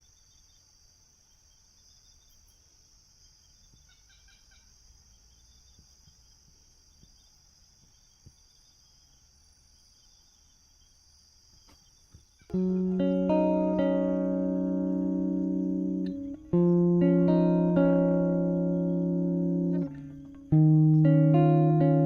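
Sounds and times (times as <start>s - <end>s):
high insect drone: 0.0s - 22.0s
insect chirps: 0.0s - 22.0s.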